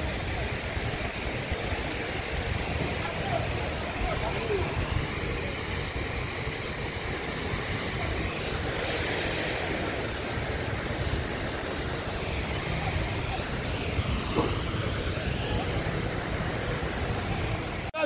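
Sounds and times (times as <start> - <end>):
large fire rushing and rumbling: 0.0 - 17.9.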